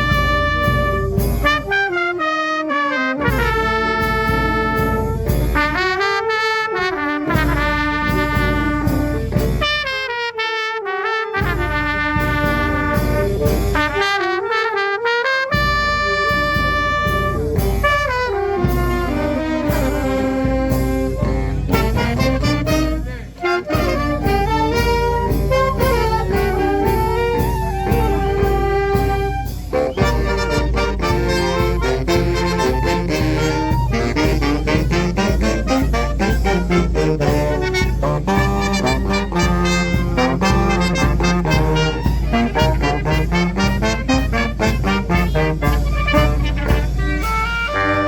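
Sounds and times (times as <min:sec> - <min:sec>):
drum beats: 0:00.0 - 0:10.2, 0:11.4 - 0:14.5, 0:15.5 - 0:48.0
brass band playing march: 0:00.0 - 0:48.0.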